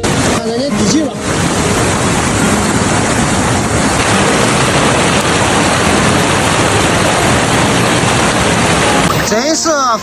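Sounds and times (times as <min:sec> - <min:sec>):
water rushing down a slope: 0:00.0 - 0:10.0.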